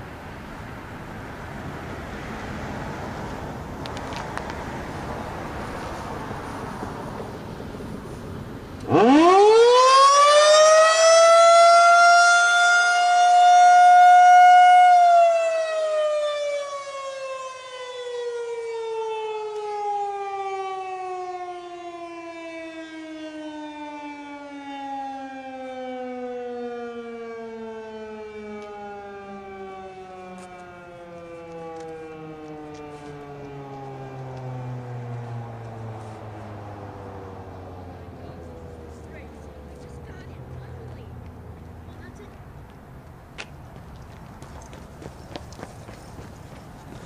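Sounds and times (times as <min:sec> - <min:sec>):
civil defense siren wailing: 0:00.0 - 0:42.2.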